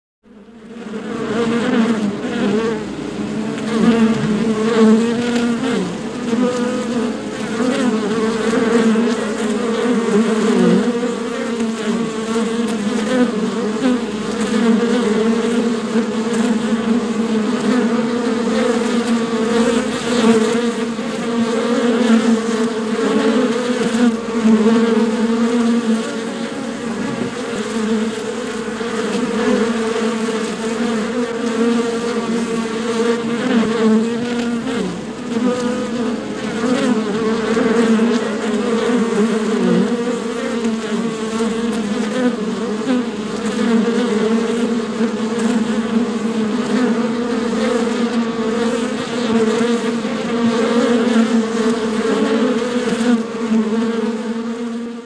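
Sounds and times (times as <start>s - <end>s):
bees buzzing: 0.3s - 55.0s.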